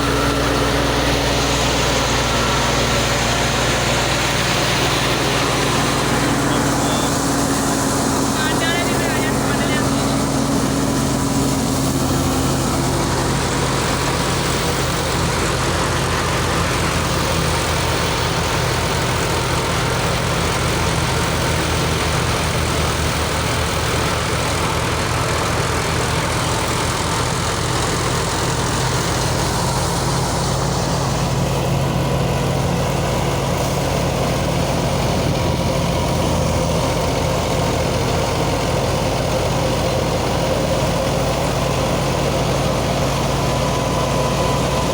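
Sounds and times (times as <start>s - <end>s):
threshing machine humming: 0.0s - 44.9s.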